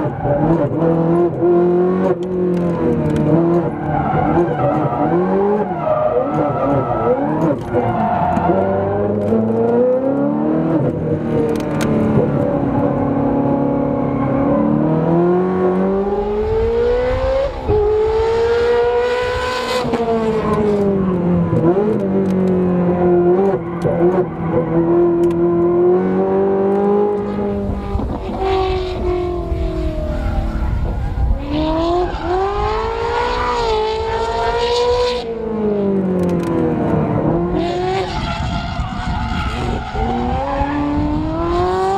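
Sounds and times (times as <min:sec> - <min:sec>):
sports car engine accelerating: 0:00.0 - 0:41.9.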